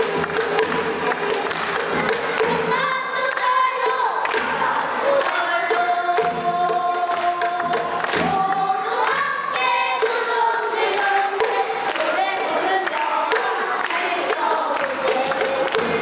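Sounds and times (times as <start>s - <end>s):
children singing in unison: 0.0s - 16.0s
drum strokes: 0.0s - 16.0s.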